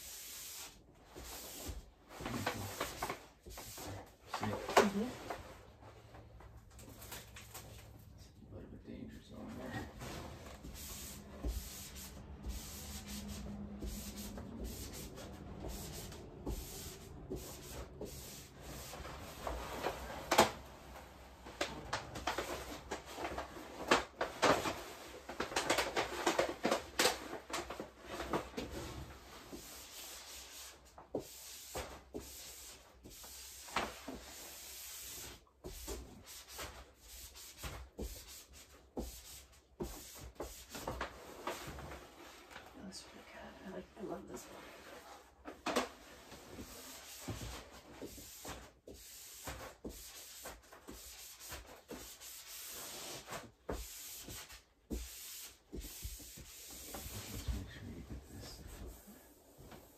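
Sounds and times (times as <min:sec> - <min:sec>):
wallpaper rustling and rubbing: 0:00.0 - 0:08.2, 0:09.1 - 0:59.9.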